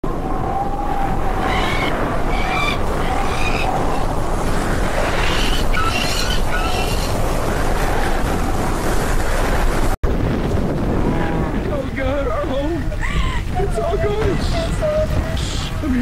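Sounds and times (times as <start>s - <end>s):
wind roaring: 0.0s - 16.0s.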